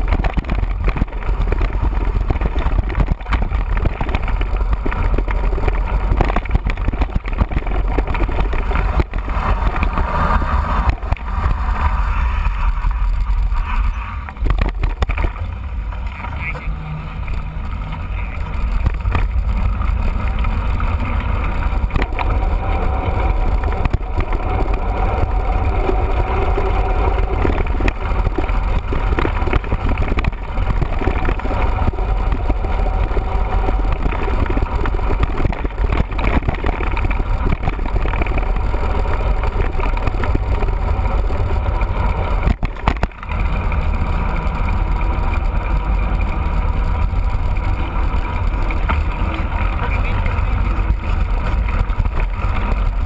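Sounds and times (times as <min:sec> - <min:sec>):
wind rumble on camera: 0:00.0 - 0:53.0.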